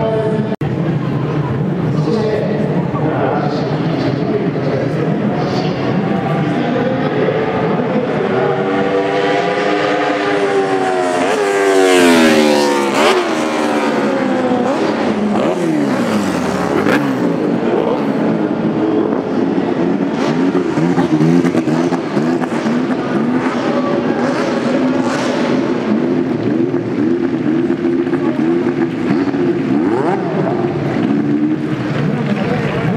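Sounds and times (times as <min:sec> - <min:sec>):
race car engine passing: 0:00.3 - 0:32.9.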